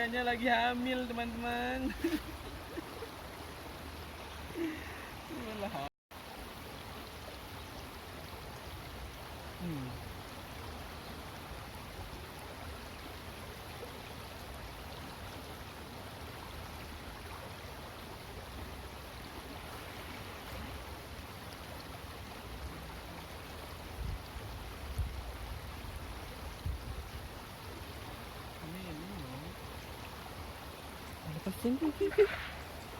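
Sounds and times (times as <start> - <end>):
flowing water rushing: 0.0 - 32.9.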